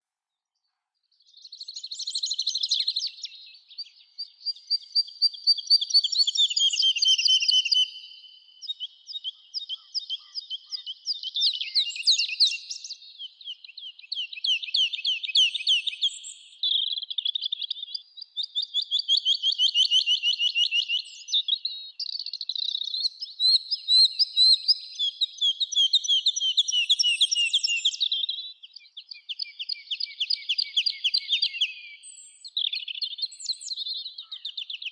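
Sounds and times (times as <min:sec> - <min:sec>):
songbird trilling and chirping: 0:01.2 - 0:34.9.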